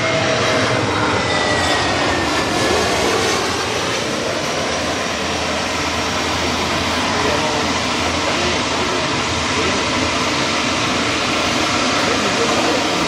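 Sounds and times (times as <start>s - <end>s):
faint engine whine: 0.0s - 13.0s
jet airliner engines roaring: 0.0s - 13.0s.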